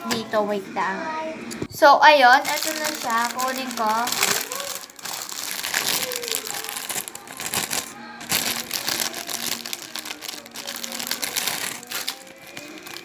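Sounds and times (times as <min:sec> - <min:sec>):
plastic bags crinkling: 0:02.4 - 0:13.0.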